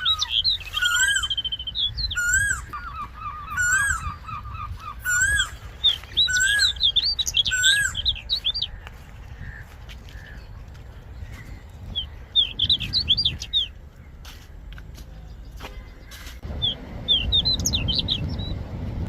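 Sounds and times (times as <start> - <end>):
songbird singing: 0.0 - 19.0
steady low rumble: 0.0 - 19.0.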